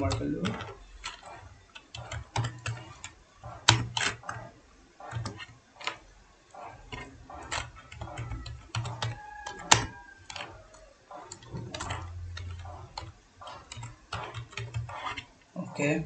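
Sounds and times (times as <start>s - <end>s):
keyboard keys clicking: 0.0s - 15.3s.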